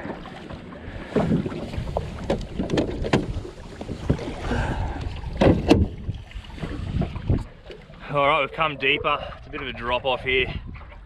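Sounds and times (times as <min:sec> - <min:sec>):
wind noise: 0:00.9 - 0:07.6, 0:08.8 - 0:11.0.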